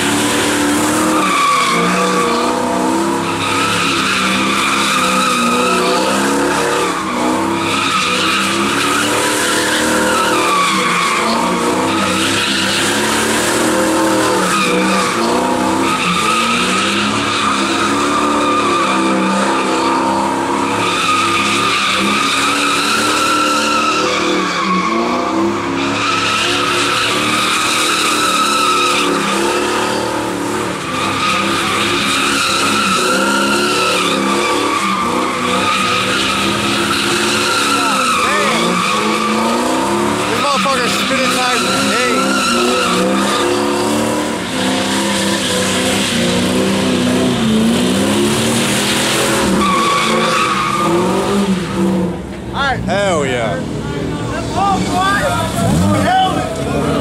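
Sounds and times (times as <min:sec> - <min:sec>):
car engine at high revs: 0:00.0 - 0:57.0
tyres squealing: 0:00.6 - 0:57.0.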